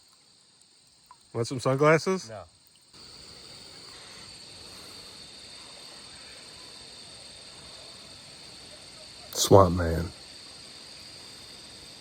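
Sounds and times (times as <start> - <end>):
faint outdoor hiss: 0.0 - 12.0
insects trilling: 0.0 - 12.0.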